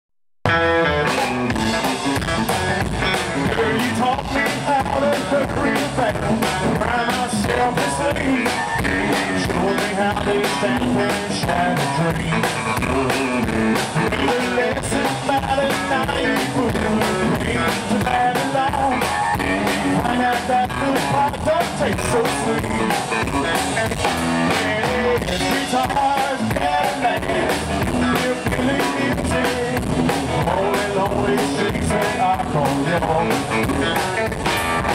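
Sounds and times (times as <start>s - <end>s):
electric guitar: 0.4s - 34.9s
upright bass: 0.4s - 34.9s
drum kit: 0.5s - 34.9s.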